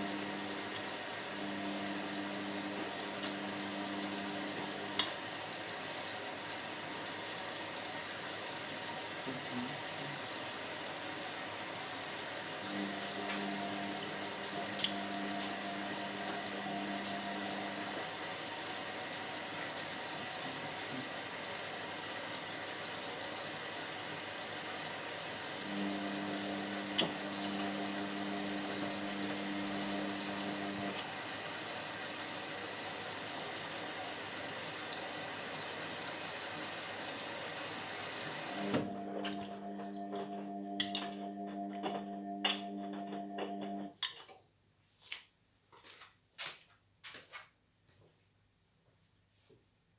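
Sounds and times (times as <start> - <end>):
washing machine motor humming: 0.0 - 22.7, 23.3 - 34.9, 35.5 - 43.9.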